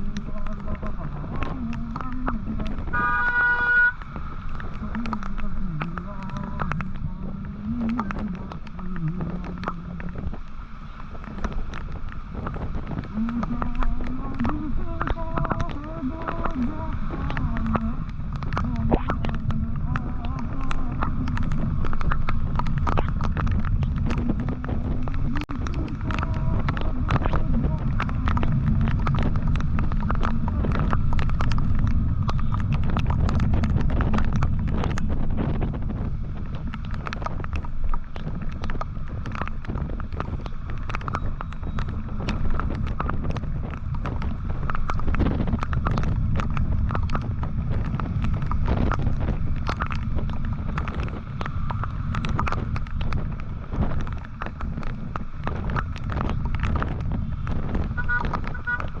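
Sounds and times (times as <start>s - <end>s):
road rumble: 0.0s - 59.0s
sharp irregular clicks and taps: 0.0s - 59.0s
wind buffeting microphone: 0.0s - 59.0s.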